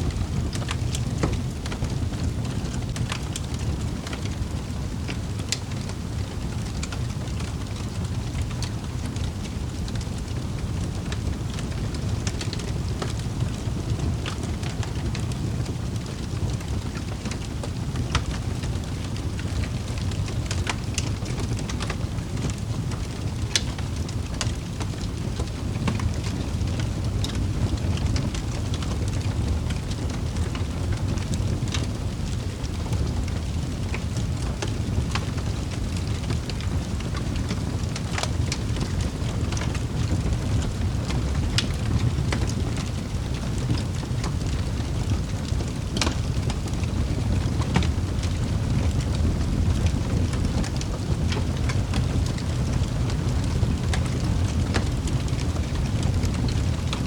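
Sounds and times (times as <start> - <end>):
fire popping and snapping: 0.0 - 57.0
wood fire crackling: 0.0 - 57.0.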